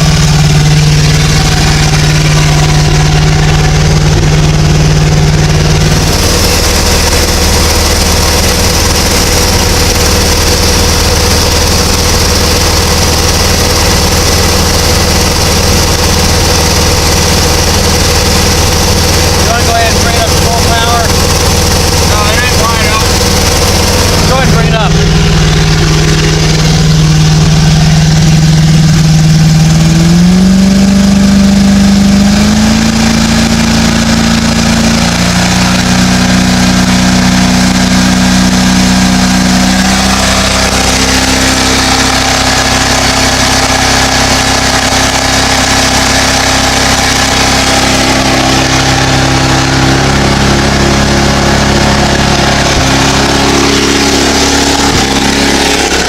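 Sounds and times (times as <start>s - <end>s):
boat engine running under load: 0.0s - 56.0s.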